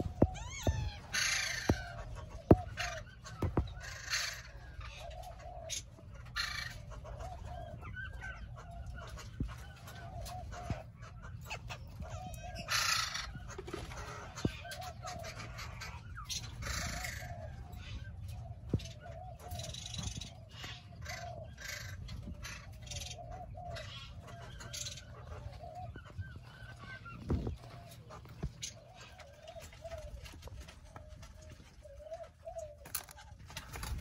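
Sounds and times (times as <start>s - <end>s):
doves cooing: 0.0s - 34.0s.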